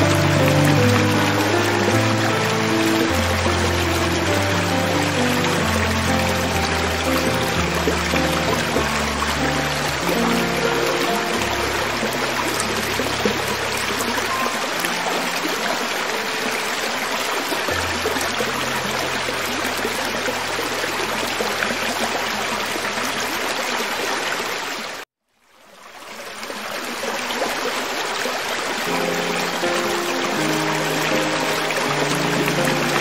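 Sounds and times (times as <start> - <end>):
creek water over rocks: 0.0 - 33.0.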